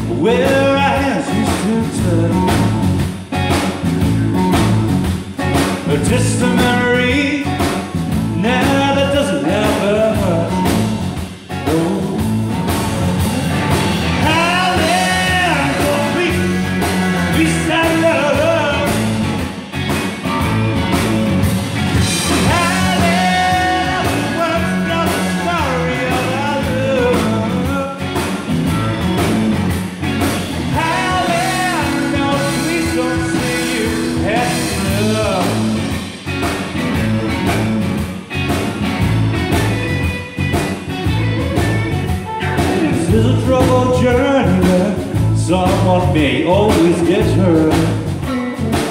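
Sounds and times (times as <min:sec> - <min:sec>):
blues-rock band playing: 0:00.0 - 0:48.9
electric guitar bending lead line: 0:00.0 - 0:48.9.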